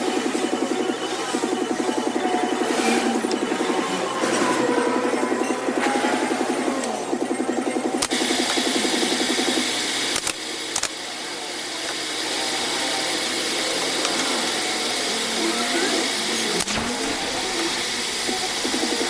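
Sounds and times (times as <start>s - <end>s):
power tool whirring: 0.0s - 19.0s.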